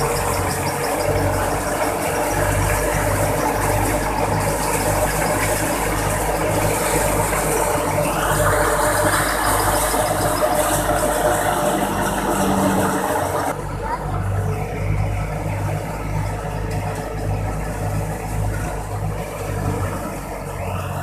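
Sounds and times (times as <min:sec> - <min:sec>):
threshing machinery clattering: 0:00.0 - 0:20.6
tractor engine humming: 0:00.0 - 0:21.0.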